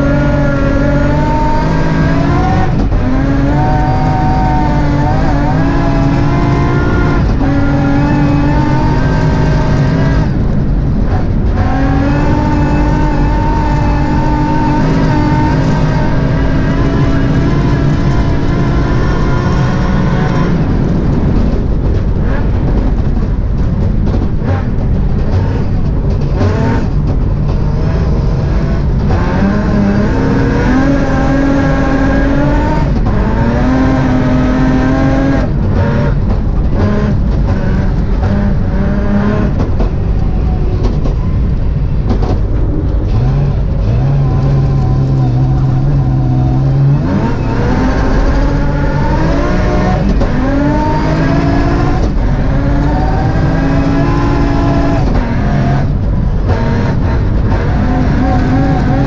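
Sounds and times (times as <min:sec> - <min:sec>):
car engine revving through gears: 0:00.0 - 0:59.0.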